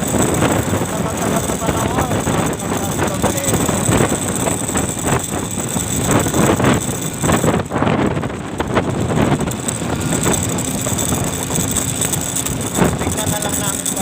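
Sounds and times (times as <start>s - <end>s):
gusting wind: 0.0s - 14.0s
vehicle engine and road noise: 0.0s - 14.0s.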